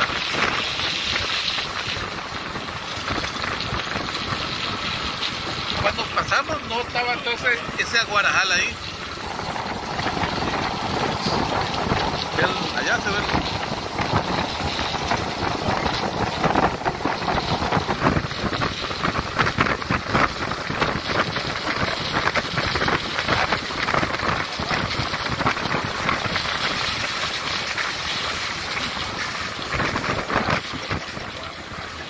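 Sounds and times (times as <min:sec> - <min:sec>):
moving vehicle running noise: 0:00.0 - 0:32.0
wind buffeting microphone: 0:00.0 - 0:32.0.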